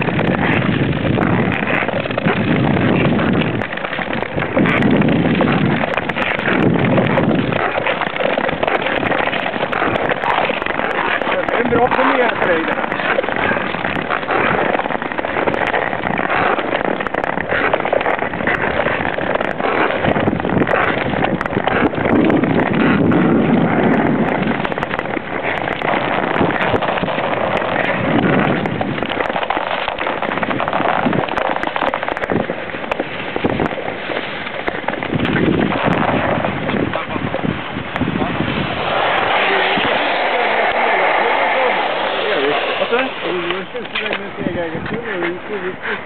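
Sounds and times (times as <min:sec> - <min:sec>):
ice skates scraping on ice: 0:00.0 - 0:46.0.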